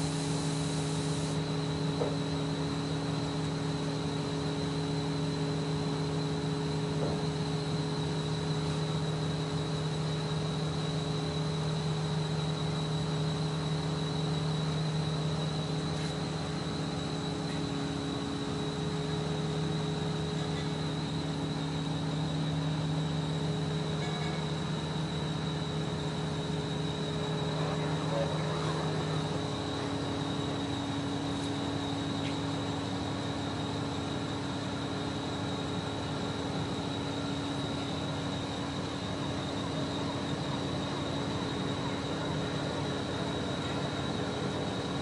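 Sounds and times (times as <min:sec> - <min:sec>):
crane engine and hydraulics humming: 0:00.0 - 0:45.0.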